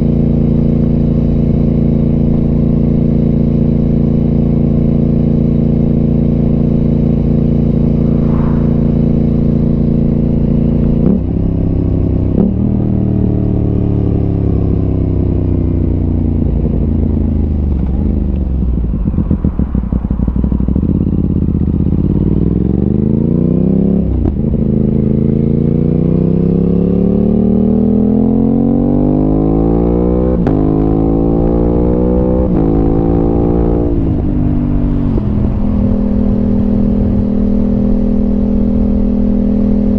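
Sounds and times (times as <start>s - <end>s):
motorcycle engine revving: 1.7s - 39.9s.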